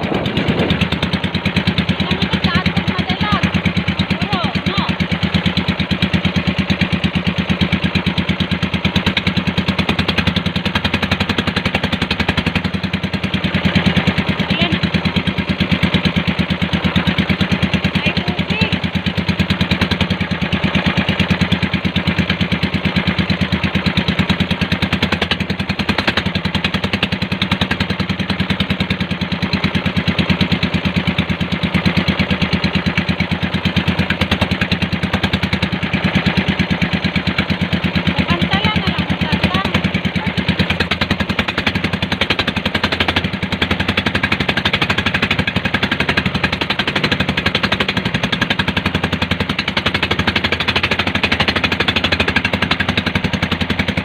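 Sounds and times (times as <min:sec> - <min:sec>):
small boat engine running: 0:00.0 - 0:54.0.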